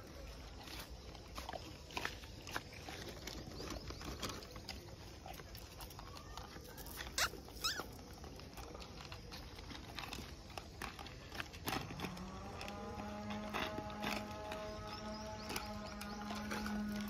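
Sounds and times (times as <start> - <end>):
dogs crunching food: 0.0 - 17.0.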